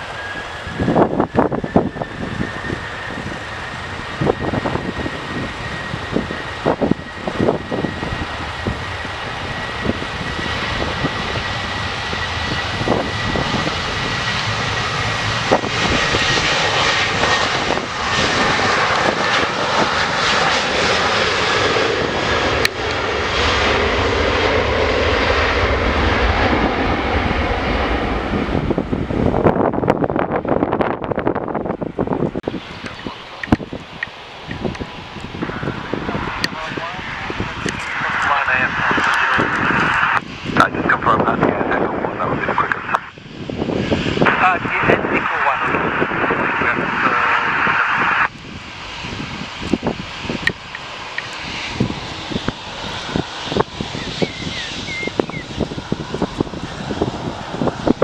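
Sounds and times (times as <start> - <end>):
jet engines whining: 0.0 - 58.0
wind gusts on microphone: 0.0 - 58.0.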